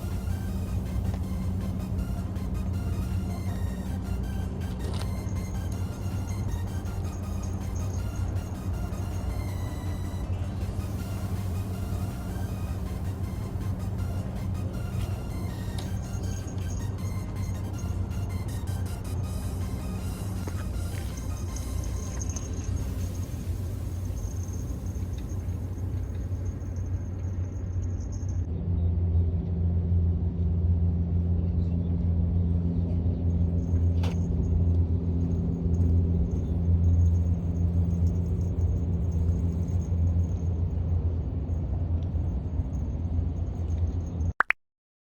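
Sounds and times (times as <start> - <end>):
engine rumble with droning hum: 0.0 - 44.4.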